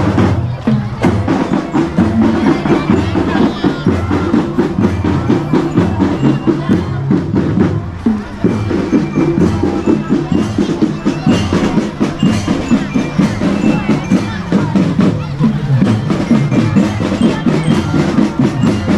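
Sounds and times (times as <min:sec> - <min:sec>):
fast drum strokes: 0:00.0 - 0:18.9
pitched melody line: 0:01.0 - 0:18.9.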